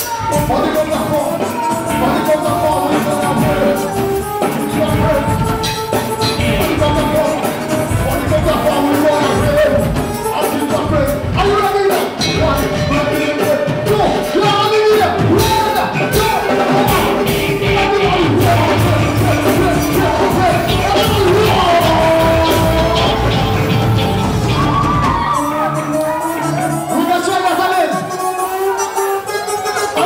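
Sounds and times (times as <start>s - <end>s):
gospel backing music with drums: 0.0s - 30.0s
man singing into a microphone: 0.0s - 30.0s.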